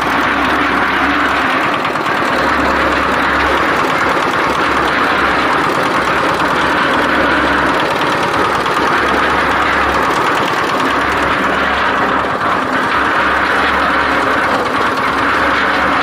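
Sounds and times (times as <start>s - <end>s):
concrete mixer running: 0.0s - 16.0s.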